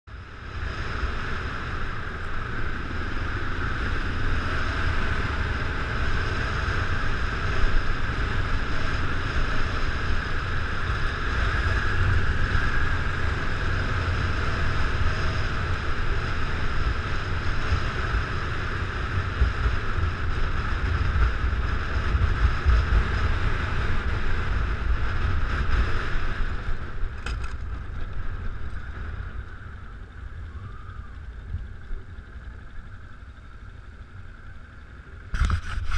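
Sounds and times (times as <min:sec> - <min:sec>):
motorcycle engine: 0:00.1 - 0:35.9
wind rumble on microphone: 0:00.1 - 0:35.9.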